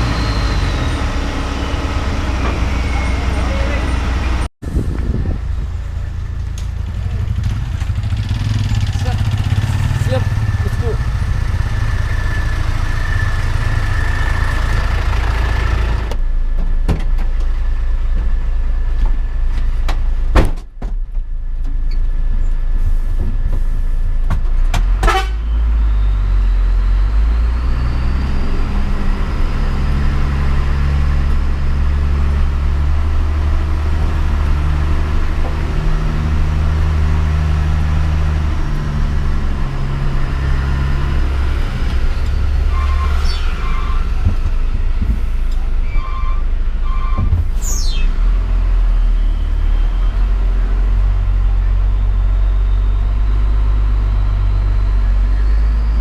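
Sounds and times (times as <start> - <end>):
truck diesel engine running: 0.0 - 20.3, 21.4 - 56.0.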